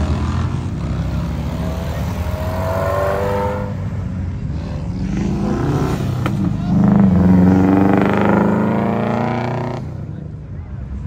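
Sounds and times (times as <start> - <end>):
car engine accelerating: 0.0 - 10.2.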